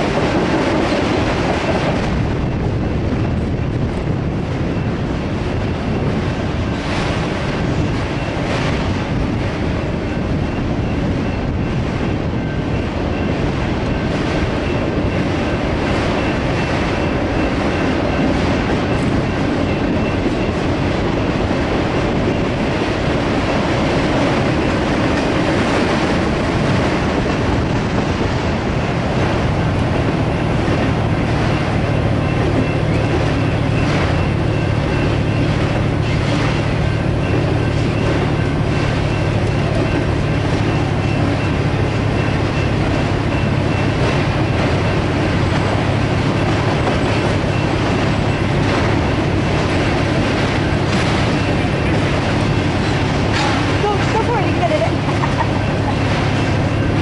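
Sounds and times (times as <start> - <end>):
freight cars rumbling on rails: 0.0 - 57.0.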